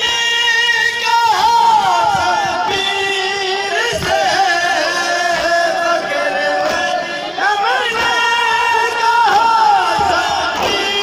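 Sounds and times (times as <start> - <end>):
large crowd noise: 0.0 - 11.0.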